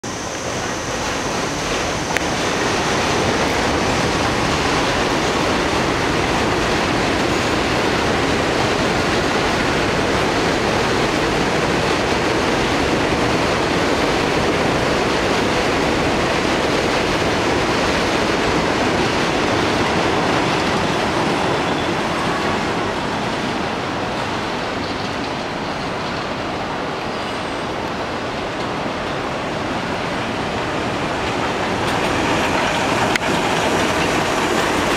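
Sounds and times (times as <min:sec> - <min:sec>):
subway train rumbling on steel: 0:00.0 - 0:34.9.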